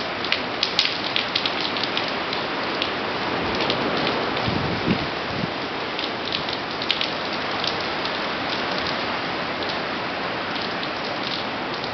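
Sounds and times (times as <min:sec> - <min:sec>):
heavy rain on pavement: 0:00.0 - 0:11.9
raindrops pattering: 0:00.0 - 0:11.9.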